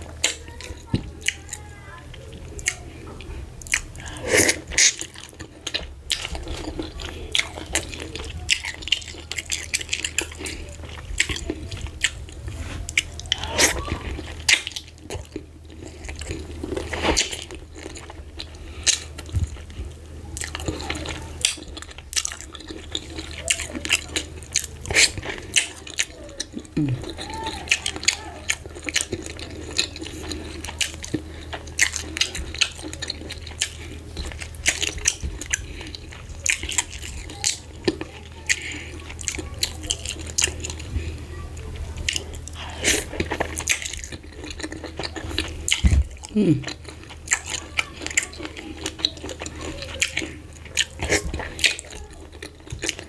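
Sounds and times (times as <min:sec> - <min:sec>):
chewing with mouth clicks: 0:00.0 - 0:53.0.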